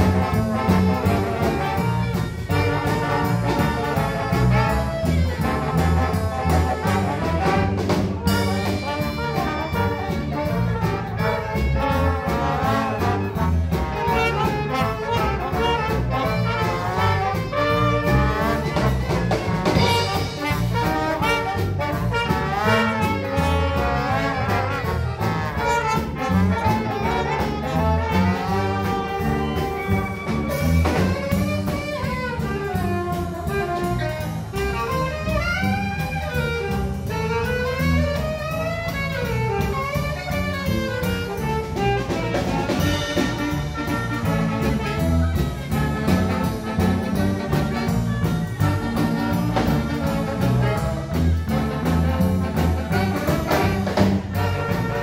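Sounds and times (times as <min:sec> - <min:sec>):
big band playing jazz: 0:00.0 - 0:55.0
saxophone solo: 0:00.0 - 0:55.0.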